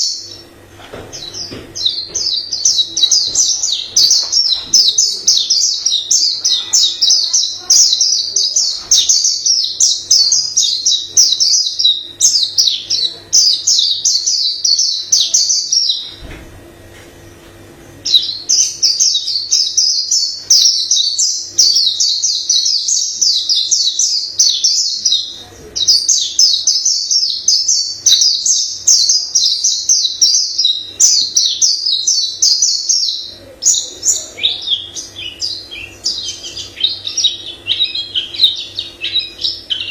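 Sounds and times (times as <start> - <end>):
bird twittering song: 0.0 - 16.3, 18.0 - 39.9.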